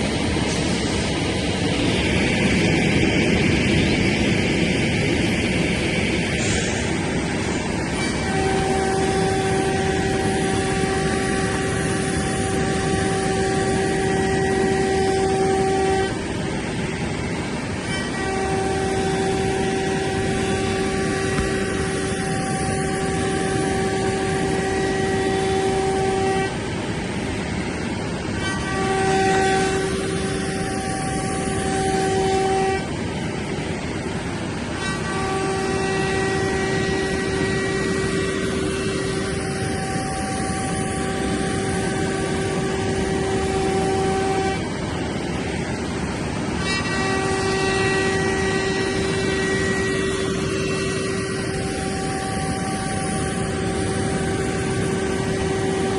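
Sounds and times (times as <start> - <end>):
cutter hiss machining wood: 0.0 - 55.9
router spindle whine: 0.0 - 55.9.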